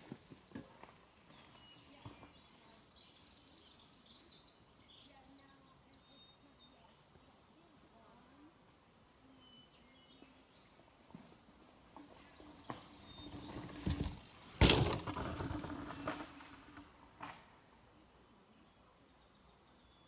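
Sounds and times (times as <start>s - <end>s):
faint bird chirping: 0.0s - 14.6s, 18.0s - 20.0s.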